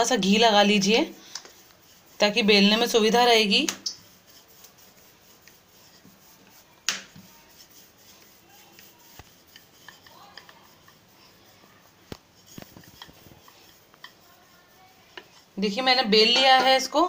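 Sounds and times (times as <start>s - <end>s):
rolling pin rubbing on dough: 0.0s - 17.0s.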